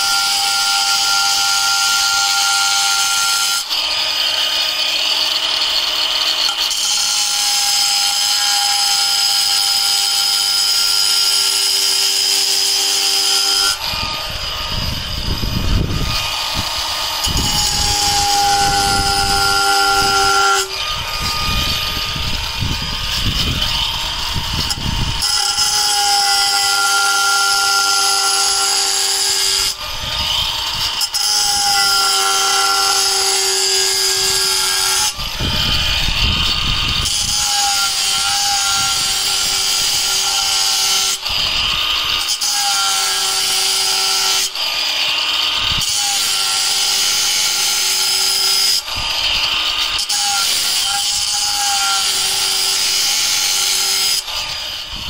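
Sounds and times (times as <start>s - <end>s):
angle grinder cutting stone: 0.0s - 55.0s.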